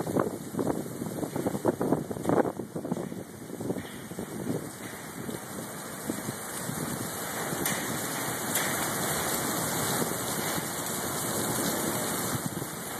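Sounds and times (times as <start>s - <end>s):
heavy rain on wet pavement: 0.0s - 12.9s.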